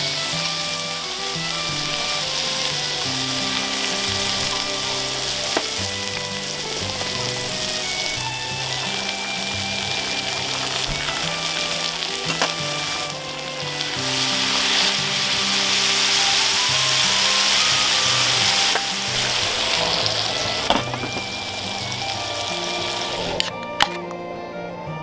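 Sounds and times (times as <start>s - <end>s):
meat sizzling in frying pan: 0.0s - 23.4s
background music: 0.0s - 25.0s.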